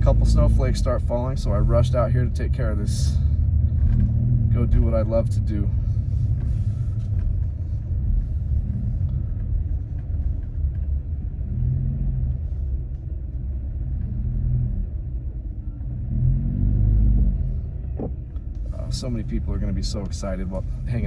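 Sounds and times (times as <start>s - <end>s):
car engine and road noise: 0.0s - 21.0s
low hum: 0.0s - 21.0s.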